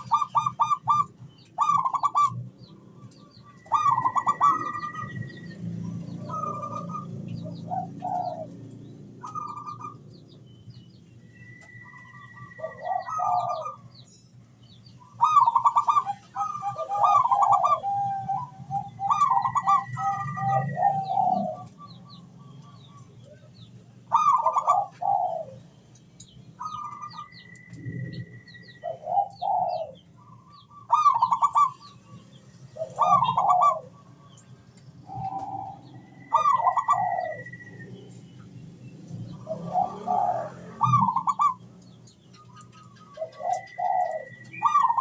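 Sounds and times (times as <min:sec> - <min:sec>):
dove cooing: 0:00.0 - 0:10.1, 0:11.4 - 0:13.9, 0:15.1 - 0:23.4, 0:24.0 - 0:25.8, 0:26.6 - 0:32.2, 0:32.8 - 0:34.4, 0:35.0 - 0:38.1, 0:39.2 - 0:45.0
small birds chirping: 0:00.0 - 0:45.0.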